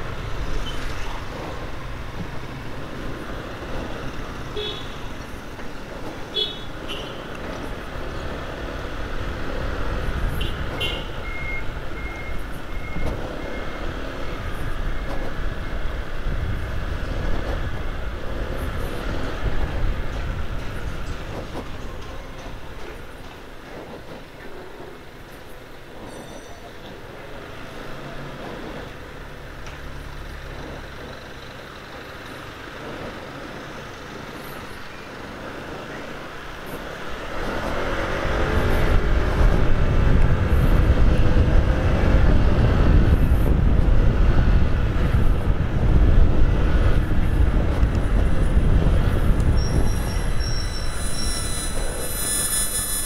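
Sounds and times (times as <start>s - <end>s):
road and engine noise: 0.0s - 53.0s.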